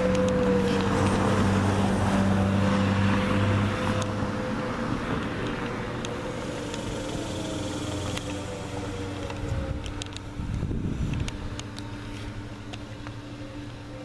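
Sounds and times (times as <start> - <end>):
distant warning sirens: 0.0 - 14.0.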